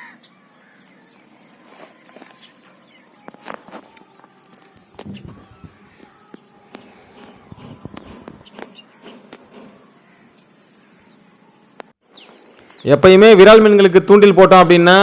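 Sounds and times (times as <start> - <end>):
insects trilling: 0.0 - 13.2.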